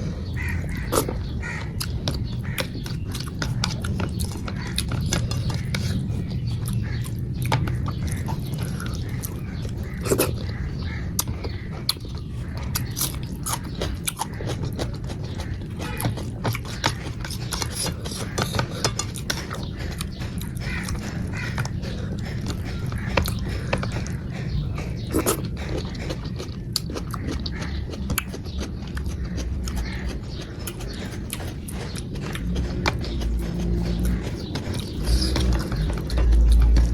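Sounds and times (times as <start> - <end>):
steady low hum: 0.0 - 36.9
wet chewing mouth clicks: 0.0 - 36.9.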